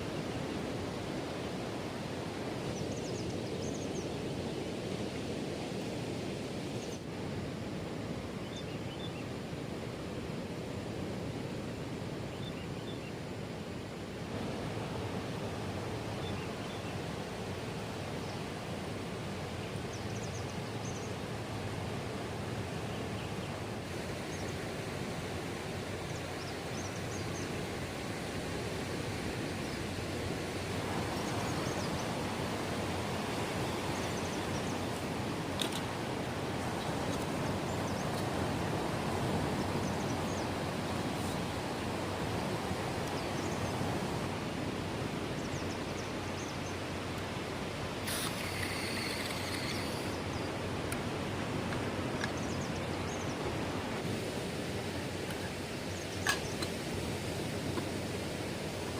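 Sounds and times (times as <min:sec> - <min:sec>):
night ambience hiss: 0:00.0 - 0:58.9.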